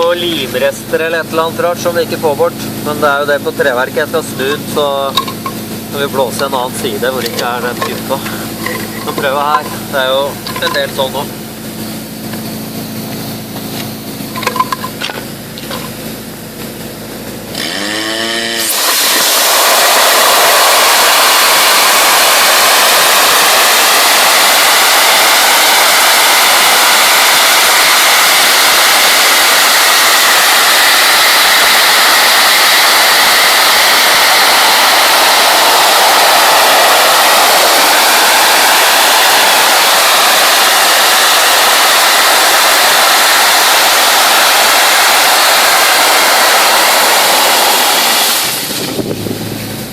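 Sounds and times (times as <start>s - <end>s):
dry-ice blasting machine humming: 0.0s - 49.9s
compressed air hissing: 4.3s - 12.2s, 17.5s - 49.8s.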